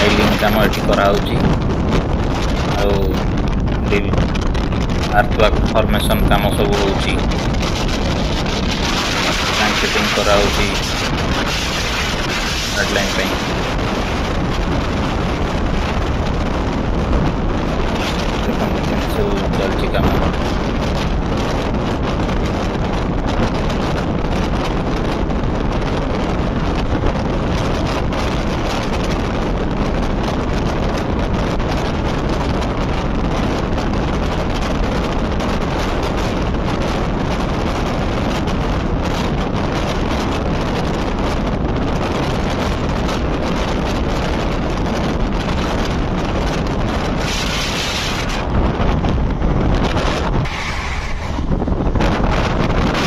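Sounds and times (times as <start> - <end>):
train rumbling on track: 0.0 - 53.0
wind buffeting microphone: 0.0 - 53.0.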